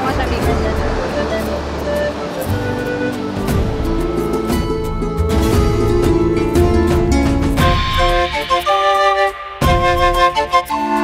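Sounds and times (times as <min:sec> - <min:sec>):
background music with pulsing bass: 0:00.0 - 0:11.0.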